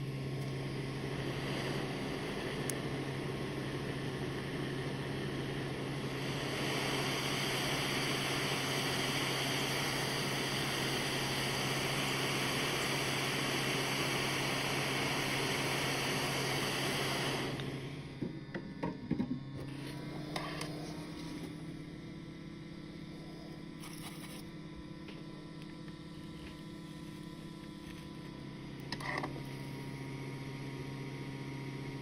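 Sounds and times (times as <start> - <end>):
electric blower motor humming: 0.0 - 32.0.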